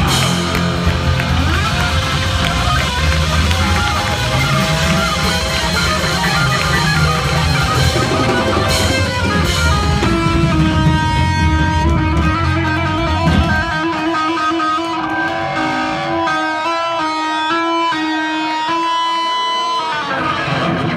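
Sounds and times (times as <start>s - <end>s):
electric guitar single held notes: 0.0s - 20.9s
heavy metal band playing live: 0.0s - 20.9s.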